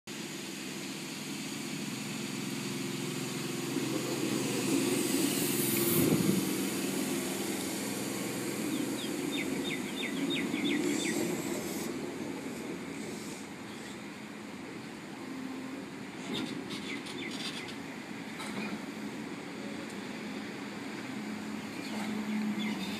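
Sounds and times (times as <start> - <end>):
electric train hum and rumble: 0.1 - 22.9.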